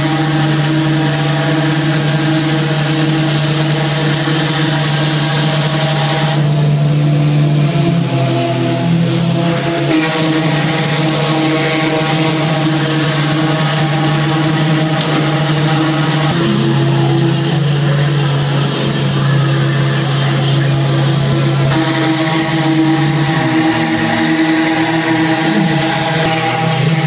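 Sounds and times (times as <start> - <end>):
machine engines droning: 0.0 - 27.0.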